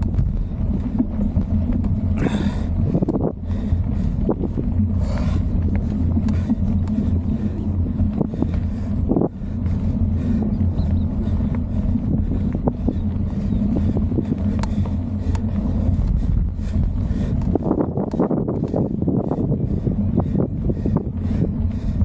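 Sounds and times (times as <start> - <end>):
bike clicks and rattles: 0.0 - 22.0
bike tyre noise on dirt: 0.0 - 22.0
wind buffeting microphone: 0.0 - 22.0.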